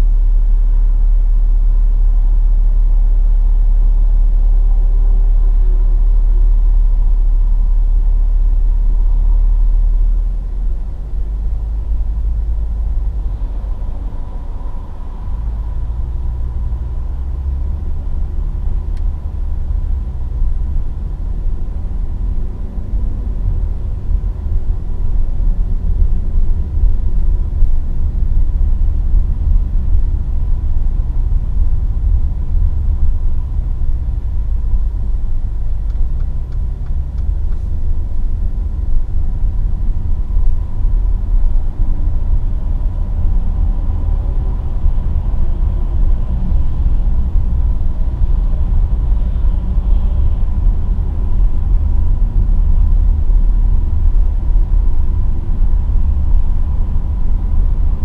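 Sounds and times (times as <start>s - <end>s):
car engine and road rumble: 0.0s - 58.0s
faint whine: 0.0s - 58.0s.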